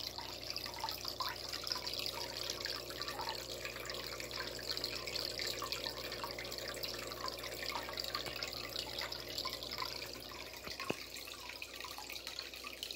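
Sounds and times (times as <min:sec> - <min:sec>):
water bubbling and dripping: 0:00.0 - 0:12.9.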